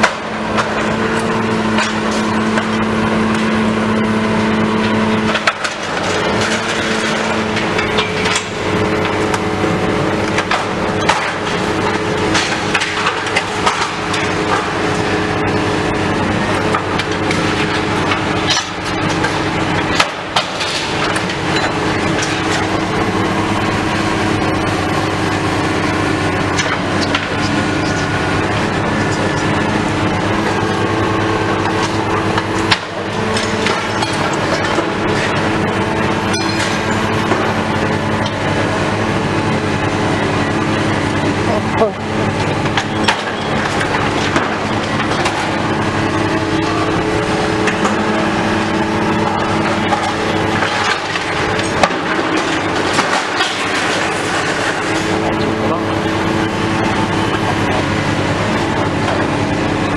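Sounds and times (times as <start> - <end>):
debris crunching and clanking: 0.0 - 59.9
diesel engine running: 0.0 - 59.9.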